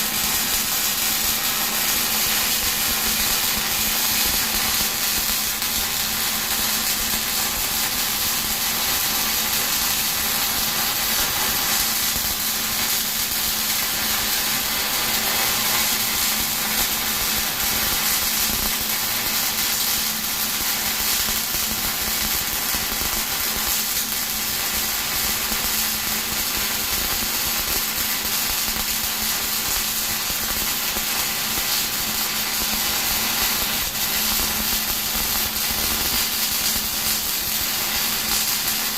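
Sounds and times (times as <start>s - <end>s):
welding arc crackling and hissing: 0.0s - 38.9s.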